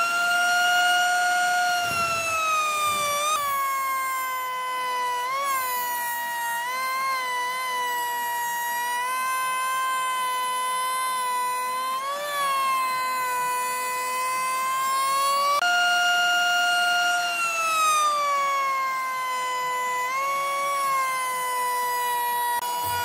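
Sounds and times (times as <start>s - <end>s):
wood router whining: 0.0s - 23.0s.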